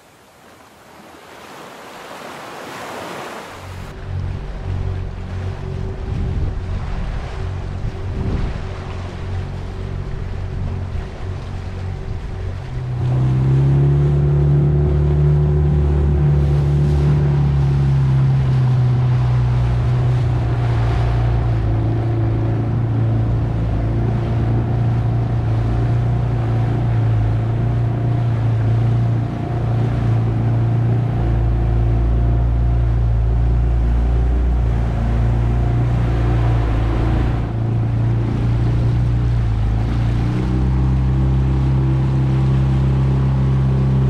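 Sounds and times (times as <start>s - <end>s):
water rushing past boat: 0.0s - 44.0s
low engine hum: 2.9s - 44.0s
outboard motor running: 3.5s - 44.0s.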